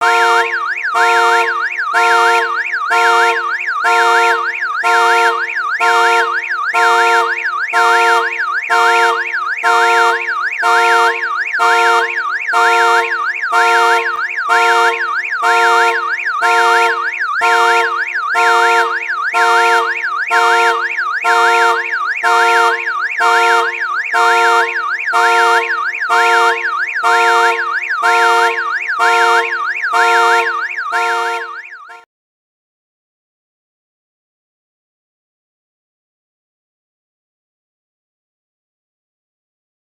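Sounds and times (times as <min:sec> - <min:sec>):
car alarm warbling: 0:00.0 - 0:32.0.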